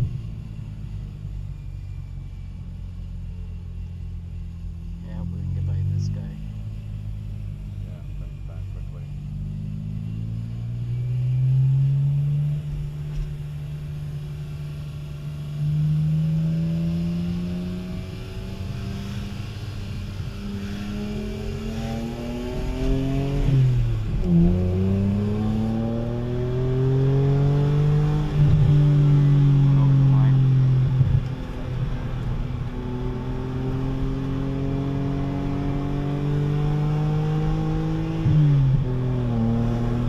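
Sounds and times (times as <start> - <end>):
car engine revving: 3.6 - 40.0.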